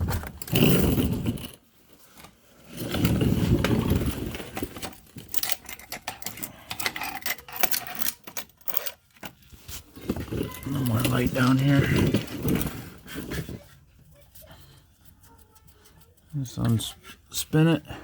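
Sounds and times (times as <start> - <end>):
rustling scrape: 0.0 - 7.0, 8.7 - 17.4.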